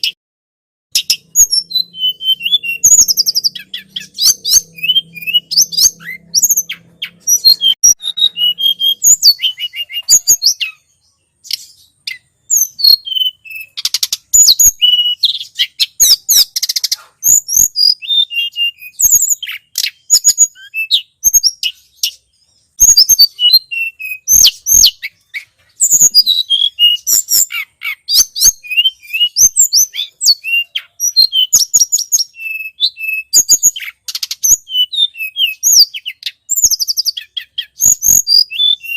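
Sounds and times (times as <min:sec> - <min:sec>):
bird chirping and trilling: 0:00.9 - 0:38.9.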